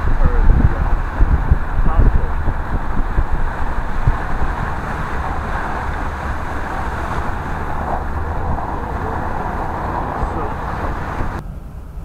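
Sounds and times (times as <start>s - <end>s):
tyres hissing through water: 0.0s - 11.4s
engine and road rumble: 0.0s - 12.0s.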